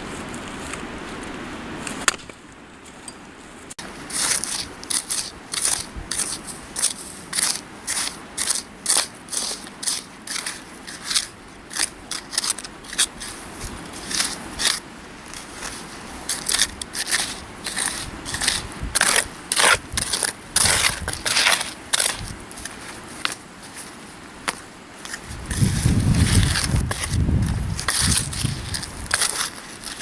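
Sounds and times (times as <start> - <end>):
tool scraping into gravel: 3.8 - 30.0.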